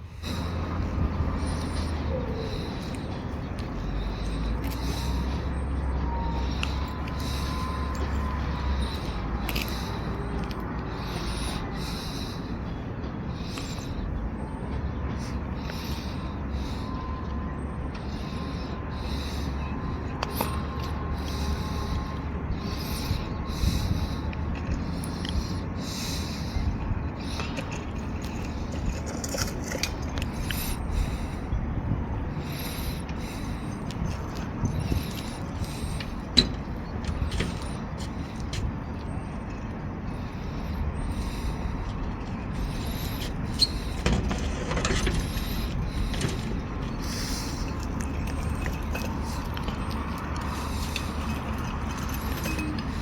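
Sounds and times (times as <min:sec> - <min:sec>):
electric train rumbling: 0:00.0 - 0:53.0.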